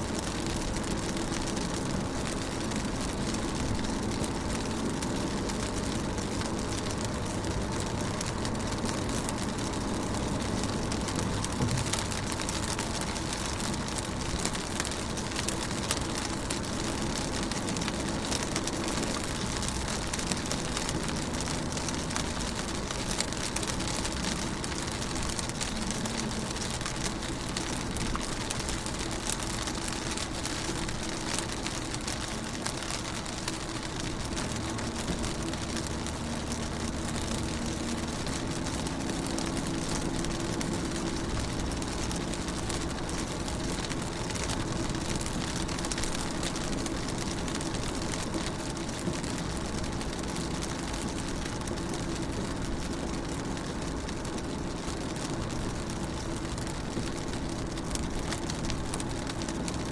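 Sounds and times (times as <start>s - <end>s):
rain pattering on a car: 0.0s - 59.9s.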